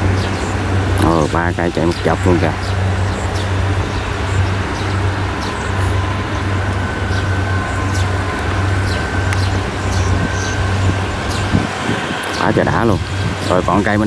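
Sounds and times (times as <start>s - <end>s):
combine harvester engines droning: 0.0s - 14.0s
faint high whine: 0.0s - 14.0s.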